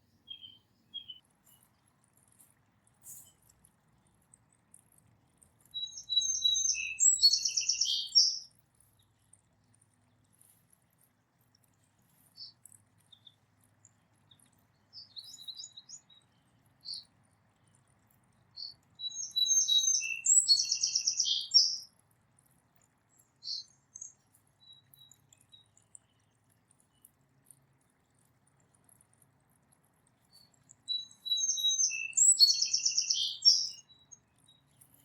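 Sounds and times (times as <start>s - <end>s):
small songbirds chirping: 0.0s - 35.0s.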